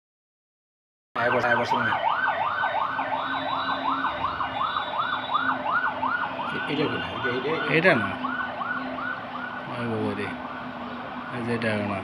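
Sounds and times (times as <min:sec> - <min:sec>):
siren wailing: 0:01.2 - 0:12.0.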